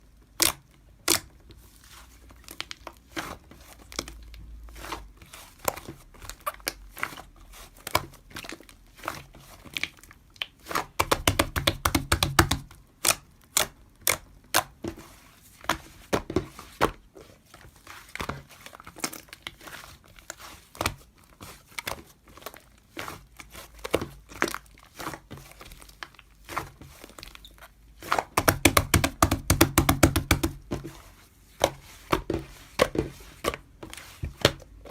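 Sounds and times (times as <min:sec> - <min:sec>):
slime squishing with sticky pops: 0:00.2 - 0:34.9.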